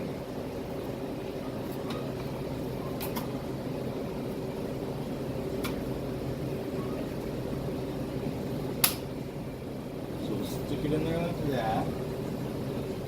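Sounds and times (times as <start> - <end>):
kitchen equipment humming: 0.0 - 13.0.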